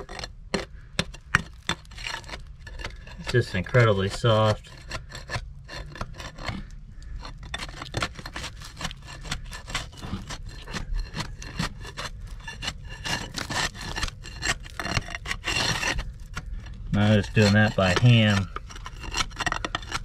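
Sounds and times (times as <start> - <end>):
gritty mortar scraping: 0.0 - 20.0.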